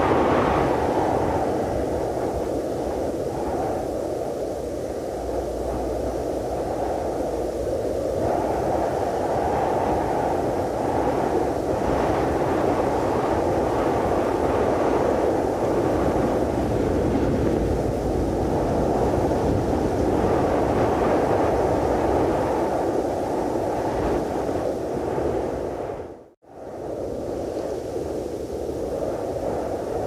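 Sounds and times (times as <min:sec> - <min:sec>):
low rushing wind: 0:00.0 - 0:30.0.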